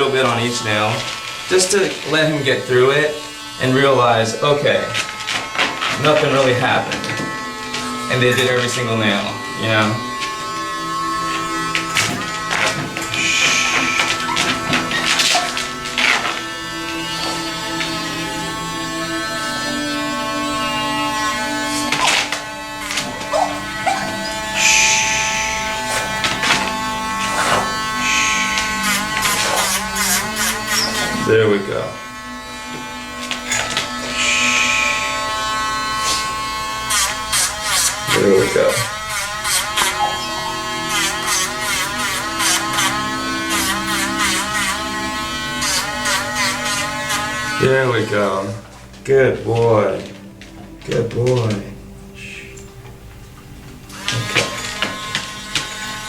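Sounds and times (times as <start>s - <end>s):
grinder rasping on nail: 0.0s - 48.8s, 53.9s - 56.0s
nail grinder buzzing: 0.0s - 50.9s, 53.8s - 56.0s.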